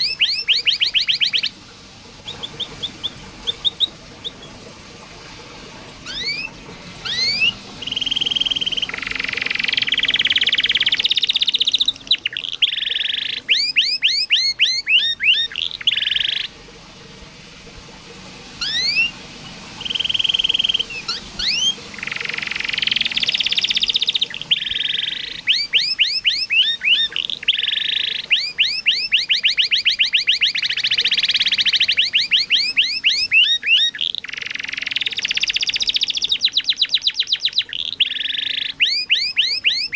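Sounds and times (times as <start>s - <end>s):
canary singing: 0.0s - 1.6s, 2.2s - 4.6s, 6.0s - 16.6s, 18.6s - 19.2s, 19.8s - 39.9s.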